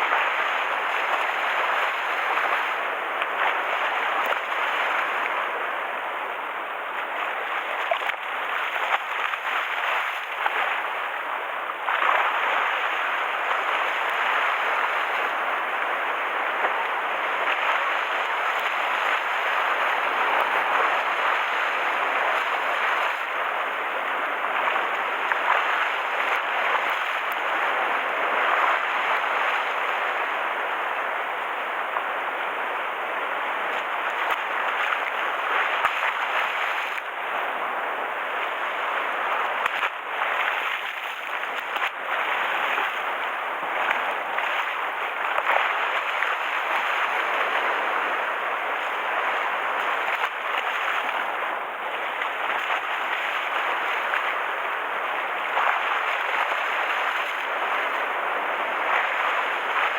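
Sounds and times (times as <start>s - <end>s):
sea waves splashing: 0.0s - 59.9s.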